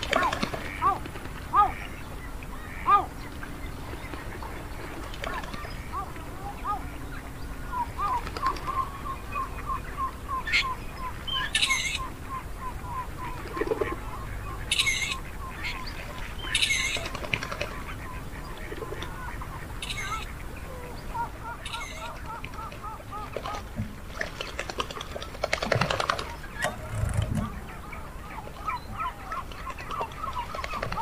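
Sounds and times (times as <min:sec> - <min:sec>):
geese calling: 0:00.0 - 0:31.0.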